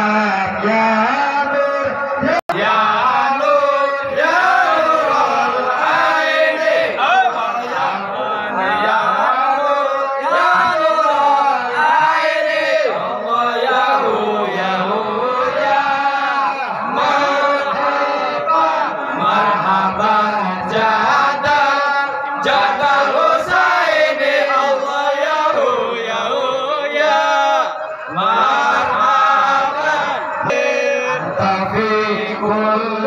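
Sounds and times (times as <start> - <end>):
men chanting in unison: 0.0 - 33.0
voices singing into microphones: 0.0 - 33.0.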